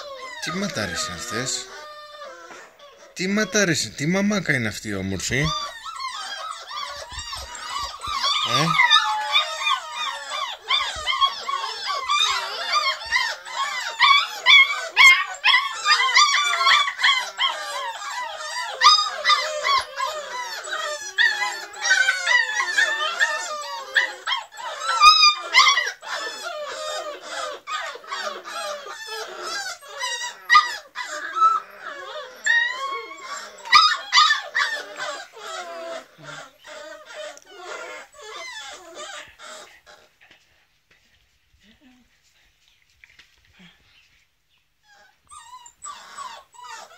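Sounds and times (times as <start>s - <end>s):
puppies whining and yelping: 0.0s - 40.5s, 43.5s - 46.9s.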